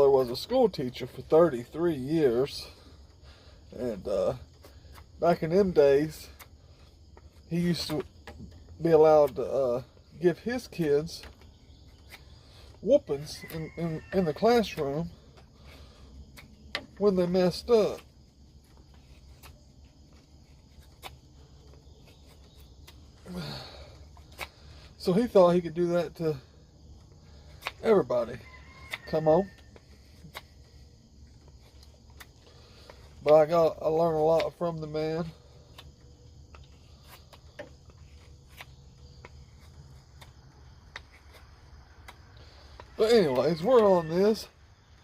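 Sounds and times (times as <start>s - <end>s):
crickets chirring: 0.0s - 45.0s
knife shaving wooden stick: 2.4s - 25.6s, 26.3s - 44.5s.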